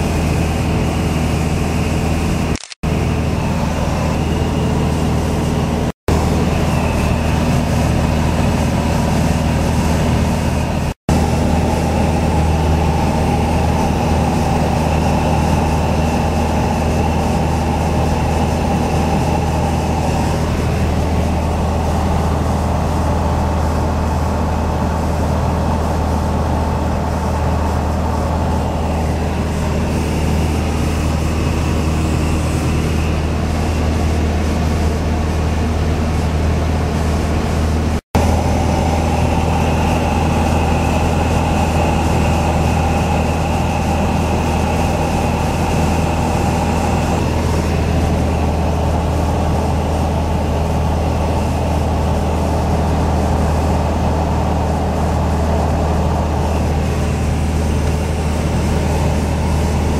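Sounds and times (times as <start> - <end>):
airplane engine and propeller droning: 0.0 - 59.9.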